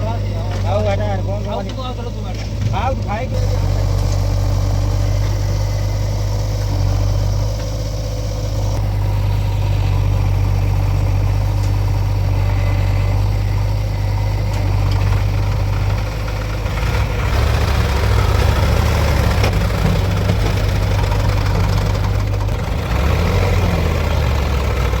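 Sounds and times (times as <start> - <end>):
heavy diesel engine humming: 0.0 - 25.0.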